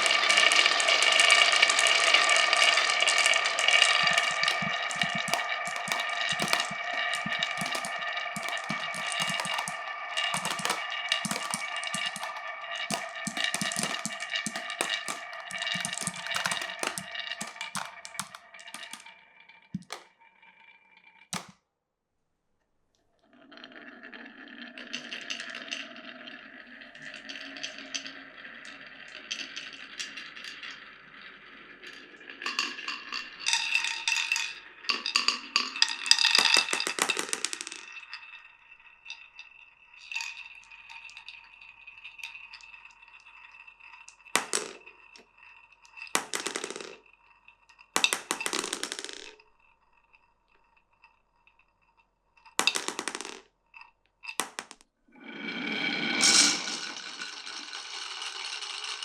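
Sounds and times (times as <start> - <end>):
glass marbles rolling and clattering: 0.0 - 21.5, 23.3 - 59.0.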